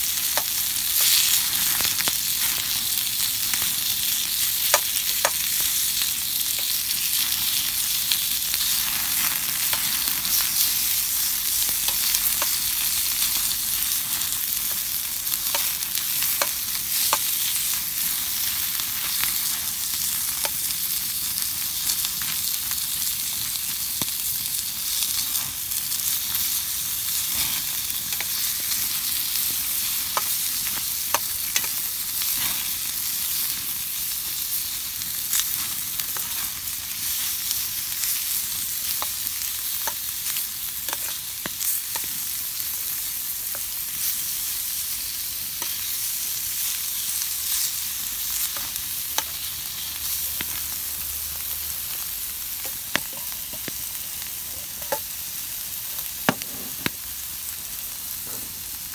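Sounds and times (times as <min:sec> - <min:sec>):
food sizzling in a pan: 0:00.0 - 0:58.9.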